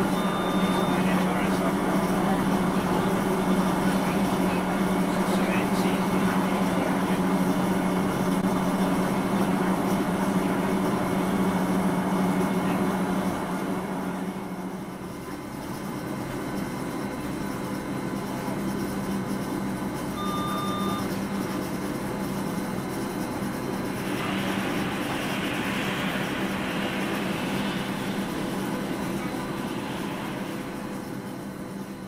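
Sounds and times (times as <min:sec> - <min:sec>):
electric train low hum: 0:00.0 - 0:32.0.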